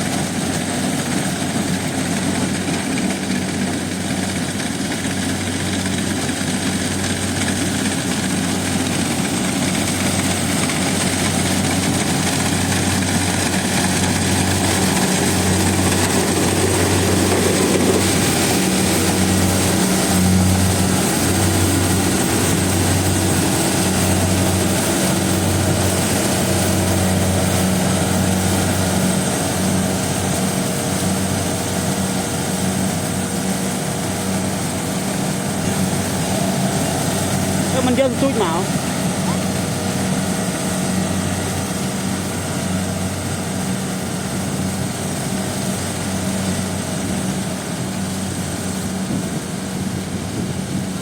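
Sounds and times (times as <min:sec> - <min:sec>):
combine harvester running: 0:00.0 - 0:51.0.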